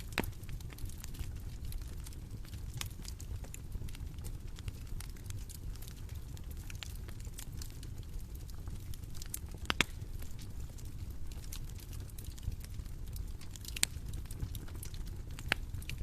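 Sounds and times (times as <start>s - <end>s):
bonfire crackling: 0.0s - 16.0s.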